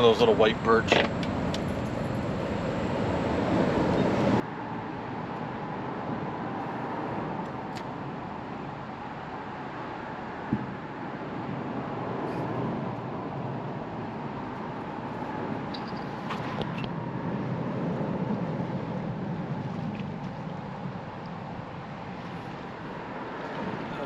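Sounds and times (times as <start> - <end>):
wind and water noise: 0.0 - 24.0.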